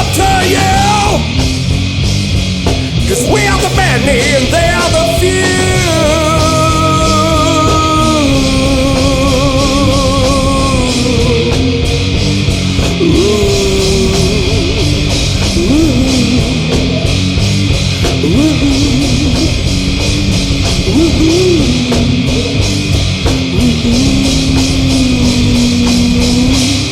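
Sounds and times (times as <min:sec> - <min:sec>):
bending lead guitar line: 0:00.0 - 0:26.9
metal band playing live: 0:00.0 - 0:26.9.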